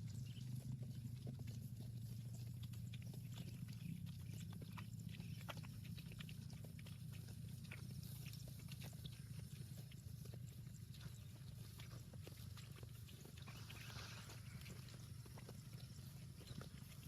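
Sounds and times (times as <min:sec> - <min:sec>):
cattle clicks and knocks: 0:00.0 - 0:17.0
steady low hum: 0:00.0 - 0:17.0.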